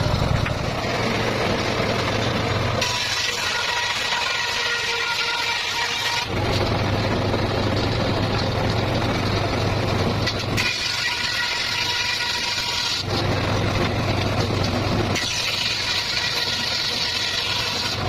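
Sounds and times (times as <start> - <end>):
circular saw cutting bamboo: 0.0 - 18.0.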